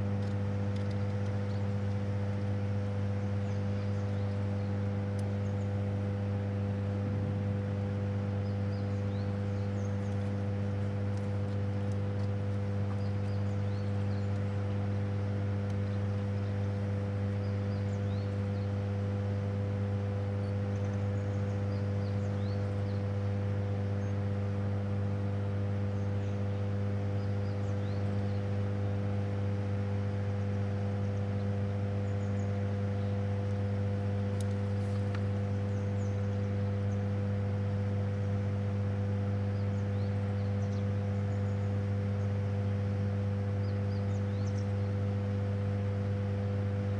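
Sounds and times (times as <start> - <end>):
deep electrical hum: 0.0 - 46.9.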